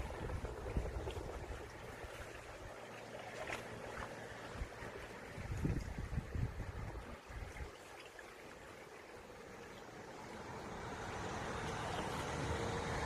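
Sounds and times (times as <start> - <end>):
low water surges: 0.0 - 13.0
waves lapping against rocks: 0.0 - 13.0.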